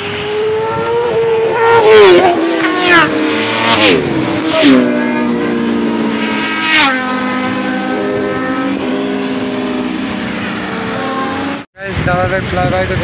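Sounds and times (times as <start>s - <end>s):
motorcycle passing at speed: 0.0s - 11.7s
steady engine tone: 0.0s - 13.0s.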